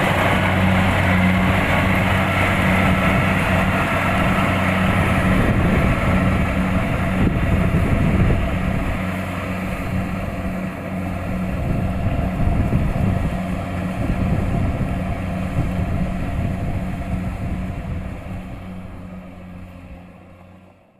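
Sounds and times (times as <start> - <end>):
combine harvester diesel engine: 0.0 - 20.9.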